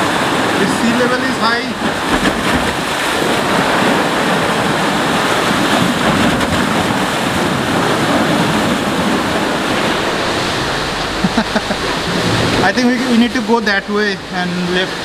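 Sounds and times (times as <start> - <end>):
sea surf washing onto beach: 0.0 - 15.0
wind buffeting microphone: 0.0 - 15.0.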